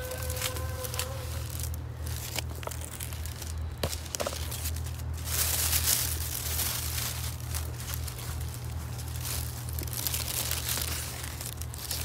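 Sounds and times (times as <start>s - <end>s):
leaves rustling and crinkling: 0.0s - 12.0s
stems snapping: 0.0s - 12.0s.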